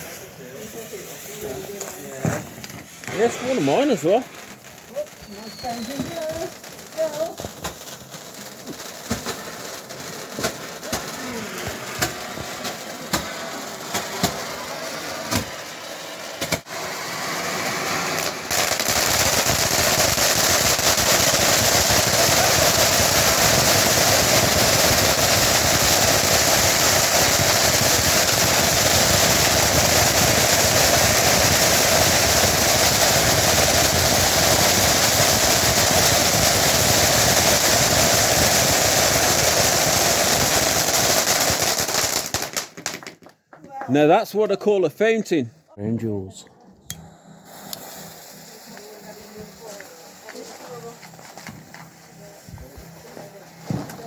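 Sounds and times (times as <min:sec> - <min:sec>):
firework fountain hissing: 0:00.0 - 0:43.3, 0:46.2 - 0:54.0
firework pops: 0:00.0 - 0:44.0, 0:46.9 - 0:54.0.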